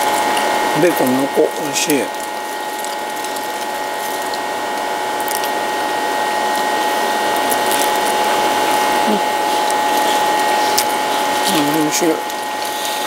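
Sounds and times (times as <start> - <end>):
buzzing drone with high tone: 0.0 - 13.0.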